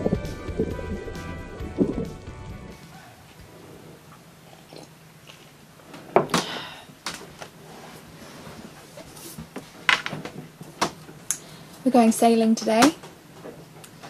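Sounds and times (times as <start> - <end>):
quiet room hiss: 0.0 - 14.0.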